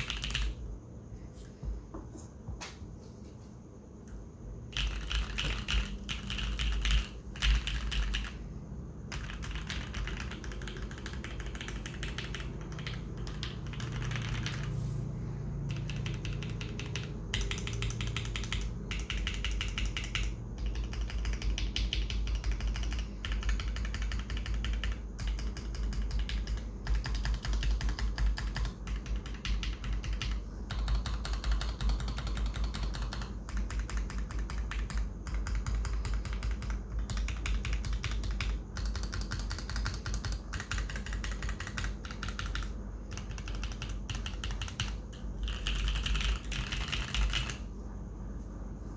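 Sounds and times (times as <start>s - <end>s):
mechanical keyboard typing: 0.0s - 0.6s, 4.7s - 14.8s, 15.6s - 47.7s.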